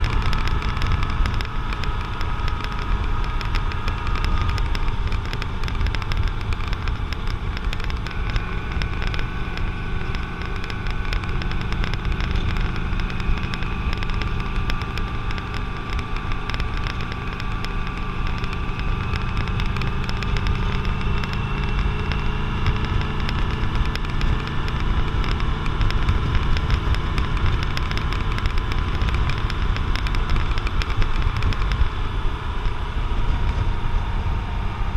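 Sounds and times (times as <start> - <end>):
motorcycle engine cruising: 0.0 - 34.9
wind noise on microphone: 0.0 - 34.9.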